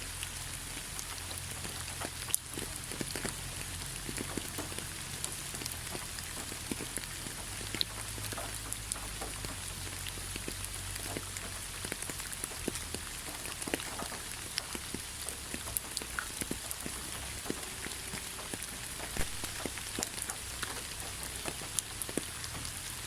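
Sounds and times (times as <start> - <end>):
raindrops ticking: 0.0 - 23.0
steady rain patter: 0.0 - 23.0.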